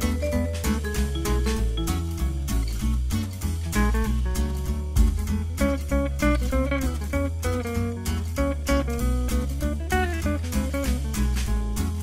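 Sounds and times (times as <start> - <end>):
bass line: 0.0 - 12.0
plucked guitar: 0.0 - 12.0
steady beat: 0.0 - 12.0.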